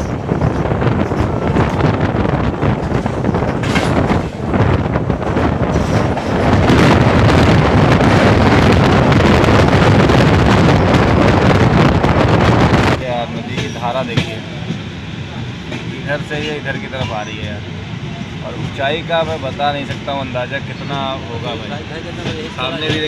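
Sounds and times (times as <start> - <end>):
wind buffeting microphone: 0.0 - 18.9
passenger train running: 0.0 - 23.0.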